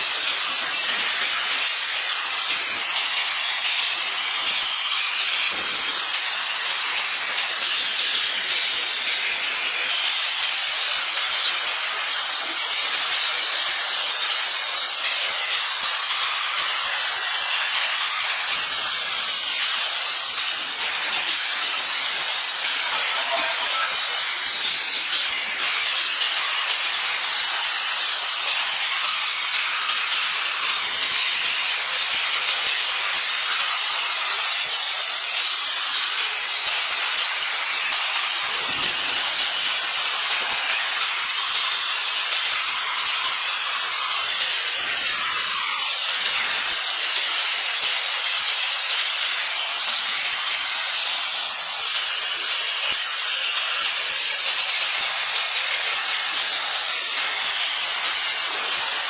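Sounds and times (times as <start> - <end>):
high hiss: 0.0 - 59.0.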